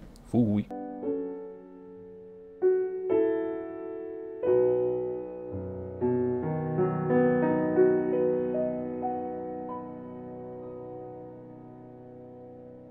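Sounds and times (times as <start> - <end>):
soft piano chords: 0.7 - 12.9.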